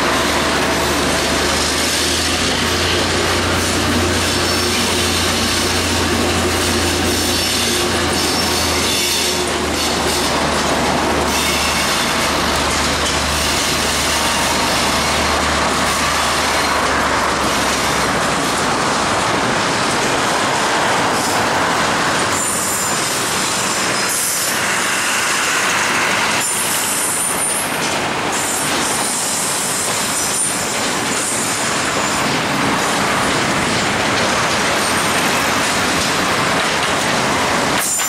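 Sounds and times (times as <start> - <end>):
diesel locomotive drone: 0.0 - 38.0
road noise: 0.0 - 38.0
train wheels on rails: 0.0 - 38.0.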